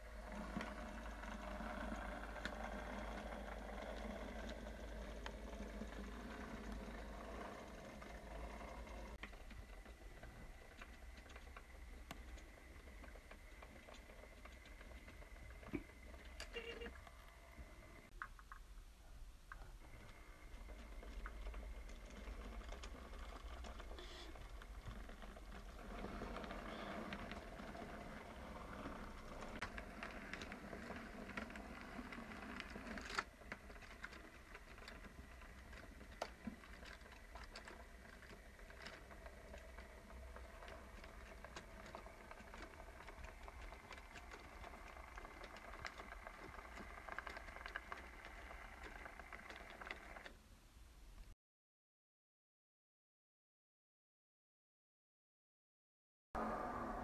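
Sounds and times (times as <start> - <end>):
model train wheels clicking: 0.0 - 18.7, 19.5 - 50.4
faint steady whine: 0.0 - 51.3.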